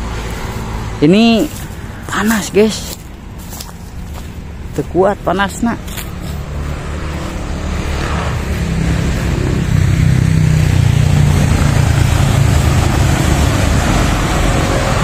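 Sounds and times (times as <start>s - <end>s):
motorcycles passing: 0.0s - 15.0s.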